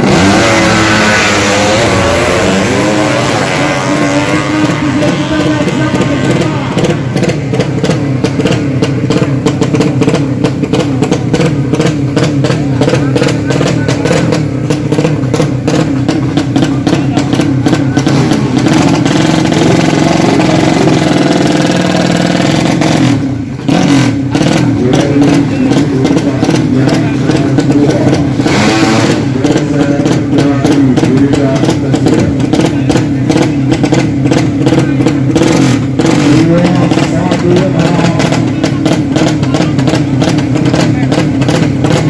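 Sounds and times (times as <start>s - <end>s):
motorcycle engine running hard: 0.0s - 42.0s.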